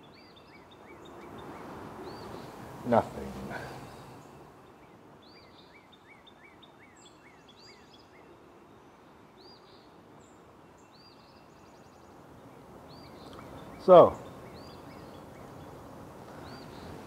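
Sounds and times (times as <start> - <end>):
low steady hiss: 0.0 - 17.0
small birds chirping: 0.0 - 17.0.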